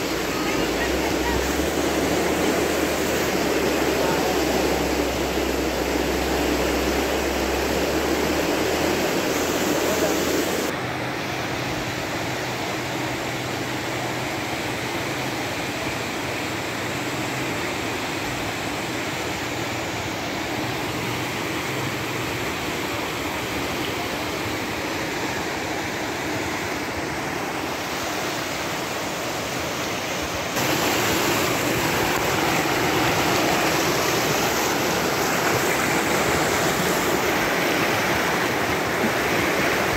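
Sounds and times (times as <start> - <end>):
floodwater rushing down a river: 0.0 - 39.9.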